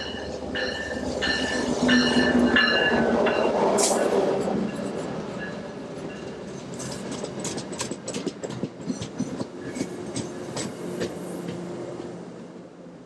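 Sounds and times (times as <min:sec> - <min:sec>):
train wheels clacking: 0:00.0 - 0:12.2
train rumble and hum: 0:00.0 - 0:13.0.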